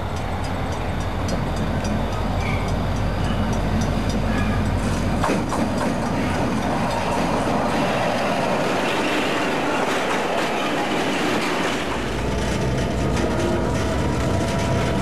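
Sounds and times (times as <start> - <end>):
diesel locomotive engine hum: 0.0 - 15.0
train wheels rushing on rails: 0.0 - 15.0.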